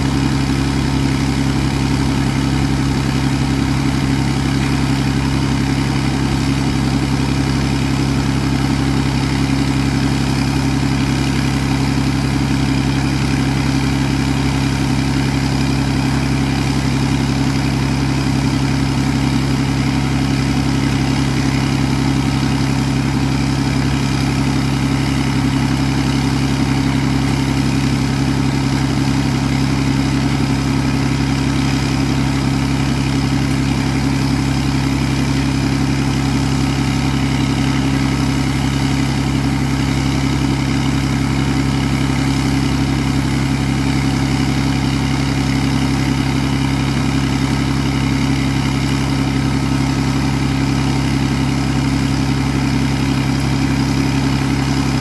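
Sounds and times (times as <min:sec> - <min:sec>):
air compressor engine hum: 0:00.0 - 0:55.0.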